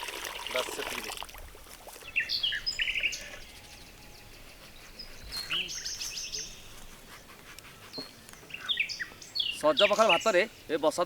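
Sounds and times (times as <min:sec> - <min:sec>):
birds chirping: 0:02.0 - 0:11.0.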